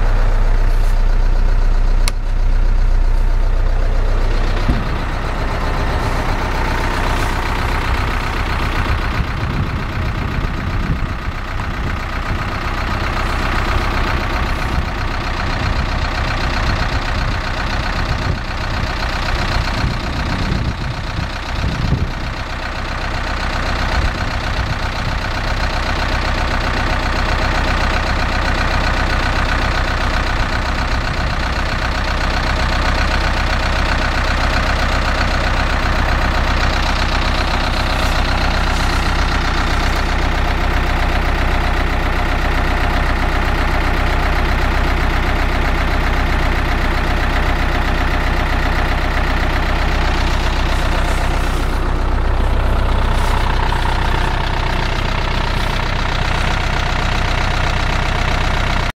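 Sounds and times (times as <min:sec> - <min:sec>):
diesel truck engine idling: 0:00.0 - 0:58.9.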